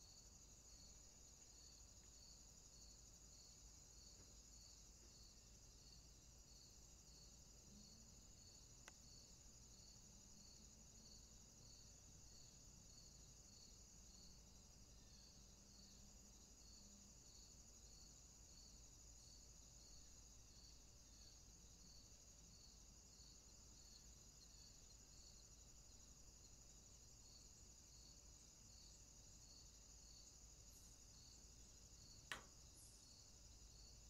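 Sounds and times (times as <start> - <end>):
high-pitched insect trill: 0.0 - 34.0
low insect chirping call: 0.0 - 34.0.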